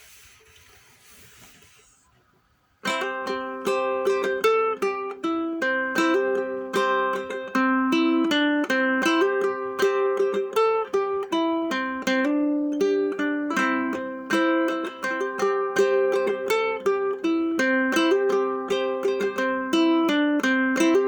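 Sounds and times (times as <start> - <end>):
faint hiss: 0.0 - 20.7
plucked acoustic string instrument: 2.8 - 21.0.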